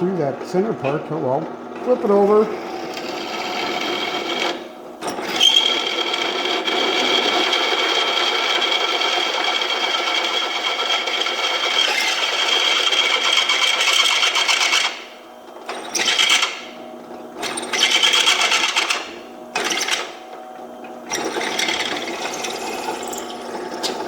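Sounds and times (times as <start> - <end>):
drill press cutting steel: 0.6 - 16.8, 17.4 - 20.3, 21.0 - 24.0.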